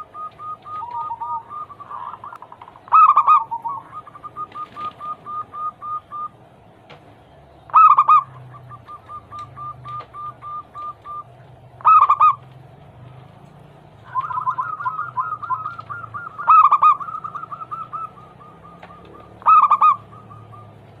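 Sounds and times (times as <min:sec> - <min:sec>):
doves cooing: 0:00.0 - 0:21.0
low steady hum: 0:00.0 - 0:21.0.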